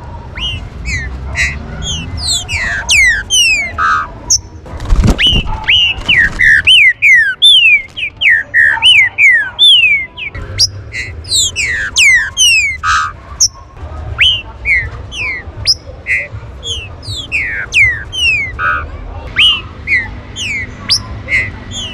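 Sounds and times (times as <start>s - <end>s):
birds whistling: 0.2s - 21.9s.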